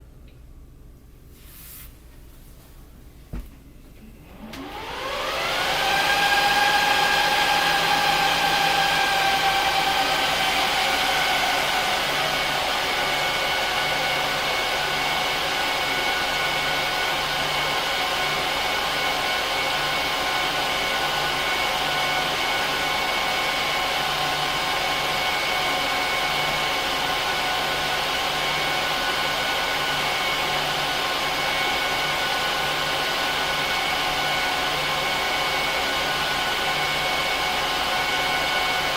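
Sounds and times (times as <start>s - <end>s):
server cooling fans whining: 0.0s - 38.9s.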